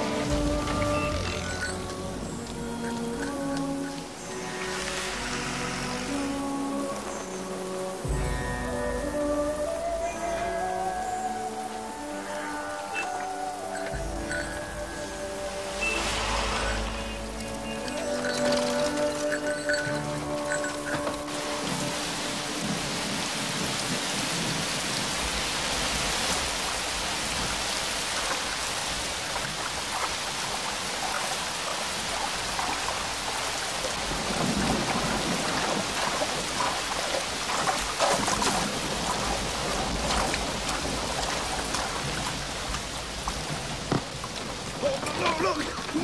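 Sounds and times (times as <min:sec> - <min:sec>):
heavy rain pouring: 0:00.0 - 0:46.0
water splashes: 0:00.0 - 0:46.0.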